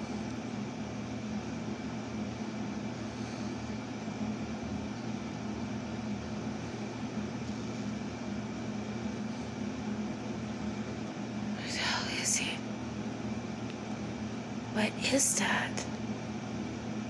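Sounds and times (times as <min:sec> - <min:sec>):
equipment humming and hissing: 0:00.0 - 0:17.0.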